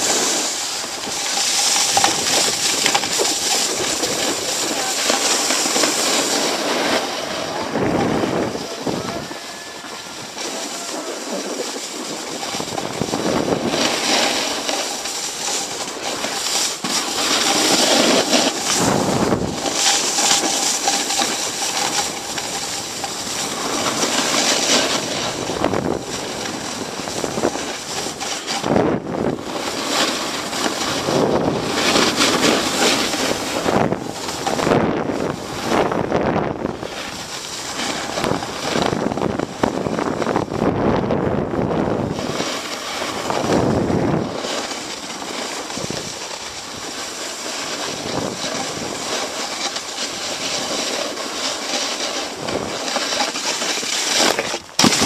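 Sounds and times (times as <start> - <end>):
wind buffeting microphone: 0.0 - 50.8
snowboard scraping over snow: 0.0 - 55.0.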